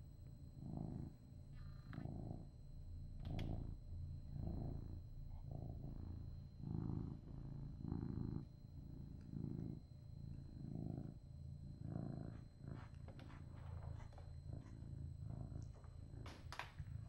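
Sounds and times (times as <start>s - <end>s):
cat purring: 0.4s - 17.0s.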